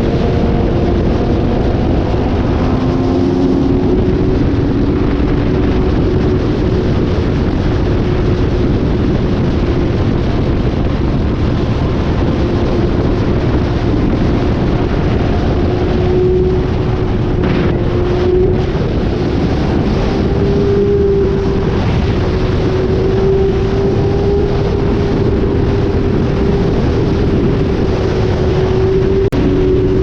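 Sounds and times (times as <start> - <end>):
motorcycle engine hum: 0.0 - 30.0
wind rush on microphone: 0.0 - 30.0.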